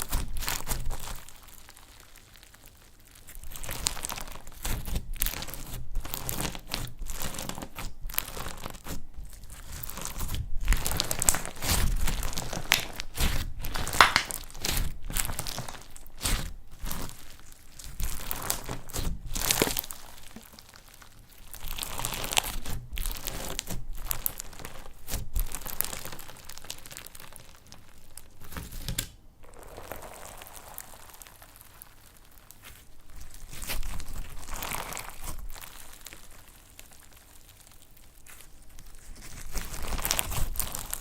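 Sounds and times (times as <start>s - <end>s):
slime crackling and crunching: 0.0s - 28.8s, 29.4s - 41.0s.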